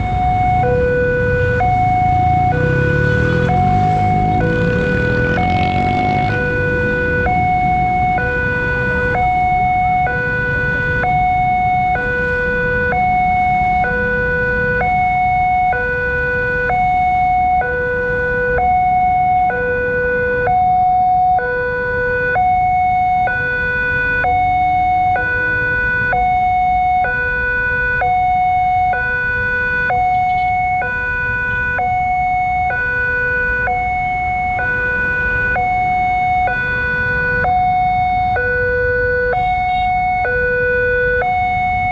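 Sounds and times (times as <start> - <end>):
level-crossing alarm two-tone wail: 0.0 - 41.9
road traffic rumbling: 0.0 - 41.9.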